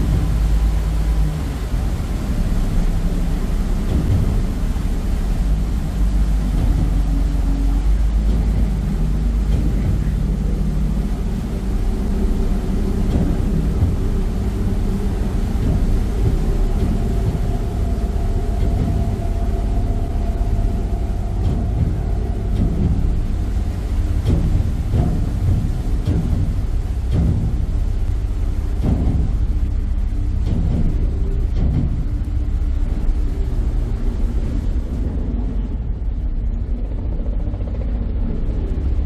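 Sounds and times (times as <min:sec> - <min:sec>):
ferry engine rumble: 0:00.0 - 0:39.0
higher steady hum: 0:00.0 - 0:39.0
wind rumble on microphone: 0:00.0 - 0:39.0.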